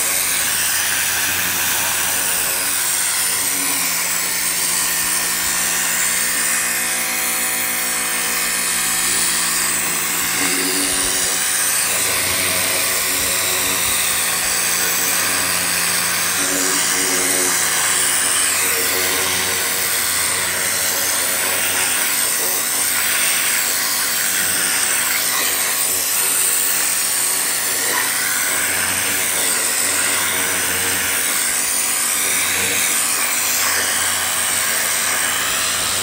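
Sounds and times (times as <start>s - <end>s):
pressure washer motor humming: 0.0s - 36.0s
water jet spraying onto carpet: 0.0s - 36.0s.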